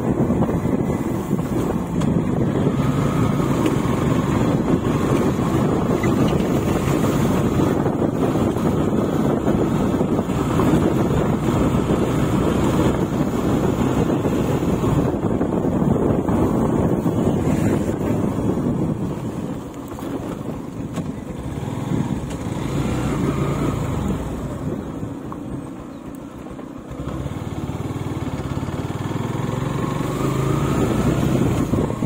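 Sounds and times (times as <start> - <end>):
motorcycle engine: 0.0 - 32.0
road noise: 0.0 - 32.0
wind rushing over microphone: 0.0 - 32.0.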